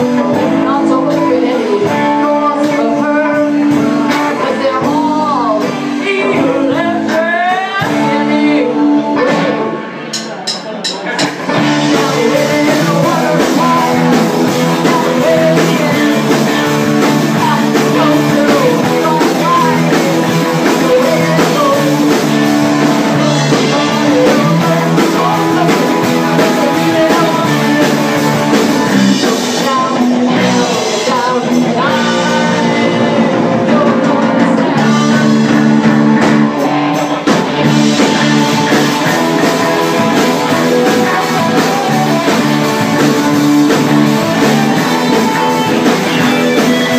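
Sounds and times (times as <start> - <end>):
live rock band: 0.0 - 46.9
person singing: 0.0 - 46.9.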